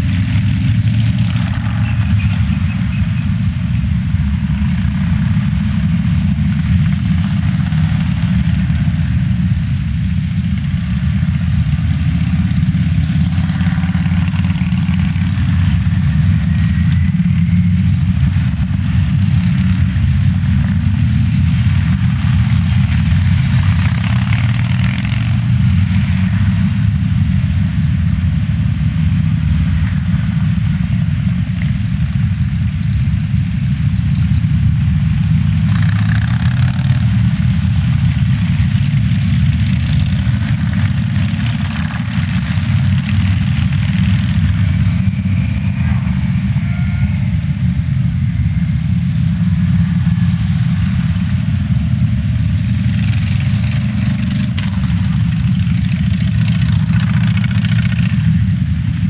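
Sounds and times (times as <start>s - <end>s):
road noise: 0.0s - 59.0s
vehicle engine rumble: 0.0s - 59.0s.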